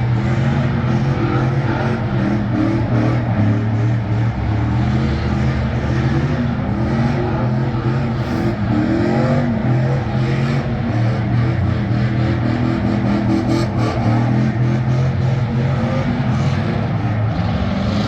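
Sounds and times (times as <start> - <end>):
truck engine running at high revs: 0.0 - 18.0.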